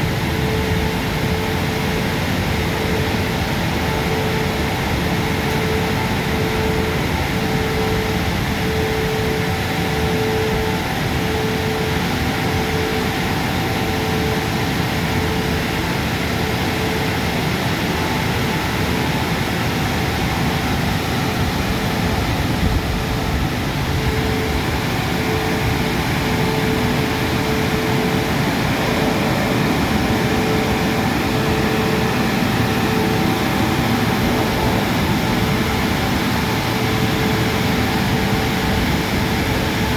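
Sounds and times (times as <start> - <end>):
car wash machinery rushing: 0.0 - 39.9
pulsing humming tone: 0.0 - 39.9.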